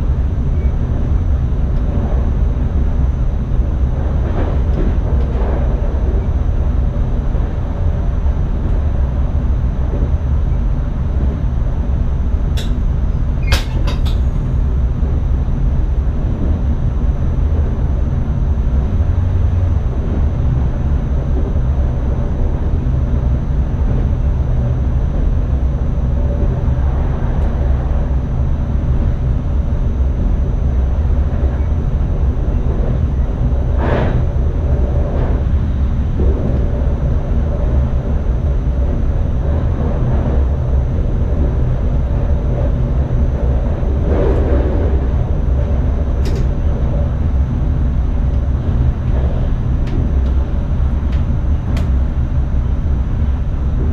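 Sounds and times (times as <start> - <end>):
train wheels rumbling: 0.0 - 53.9.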